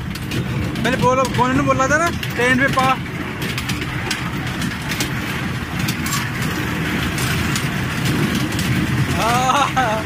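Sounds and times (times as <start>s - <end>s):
kiddie-ride train rumbling: 0.0s - 10.0s.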